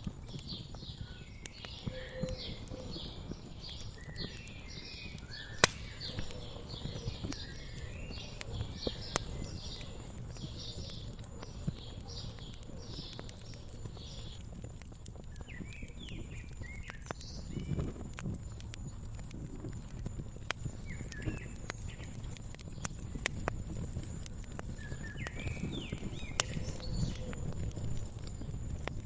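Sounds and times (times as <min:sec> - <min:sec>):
fire popping: 0:00.0 - 0:29.0
wood fire crackling: 0:00.0 - 0:29.0
birds chirping: 0:00.3 - 0:29.0.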